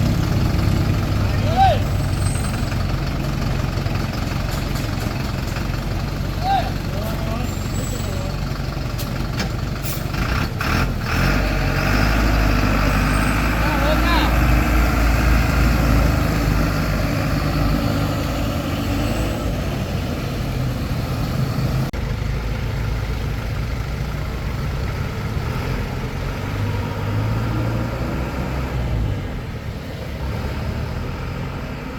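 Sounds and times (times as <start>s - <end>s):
truck engine rumbling: 0.0s - 31.9s.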